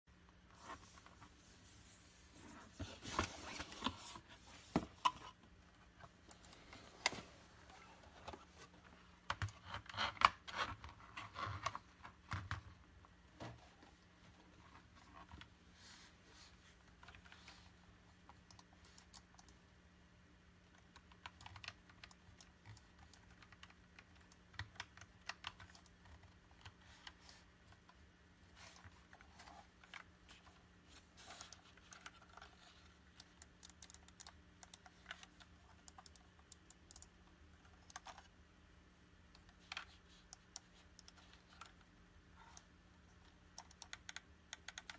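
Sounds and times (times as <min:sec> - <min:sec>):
faint steady hum: 0:00.1 - 0:44.9.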